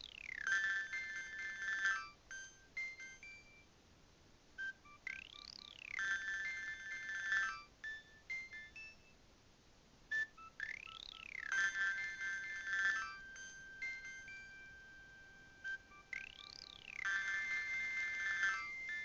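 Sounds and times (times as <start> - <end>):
electronic phone ringtone: 0.0 - 3.7, 4.6 - 9.2, 10.1 - 19.0.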